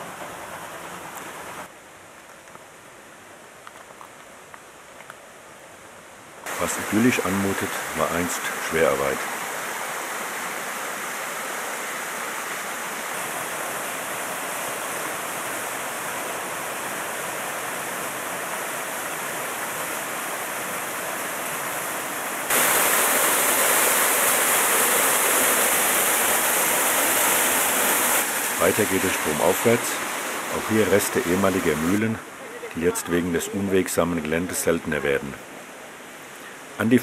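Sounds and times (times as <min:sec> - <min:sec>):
small waterfall rushing: 0:00.0 - 0:03.5, 0:04.3 - 0:37.0
stream rushing over rocks: 0:00.0 - 0:37.0.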